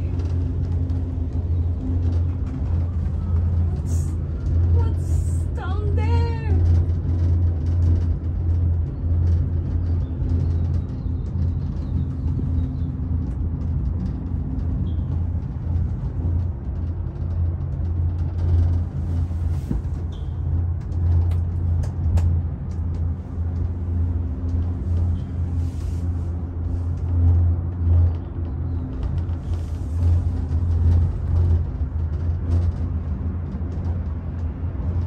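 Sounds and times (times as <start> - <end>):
faint clicks and rattles: 0.0 - 25.6, 26.4 - 35.0
gondola cabin rumbling hum: 0.0 - 35.0.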